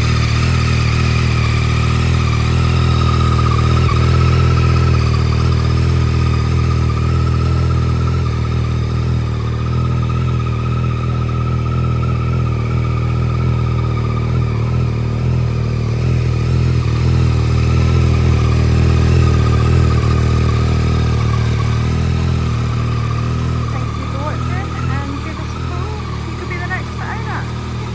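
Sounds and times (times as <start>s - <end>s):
motorcycle engine idling: 0.0s - 27.9s.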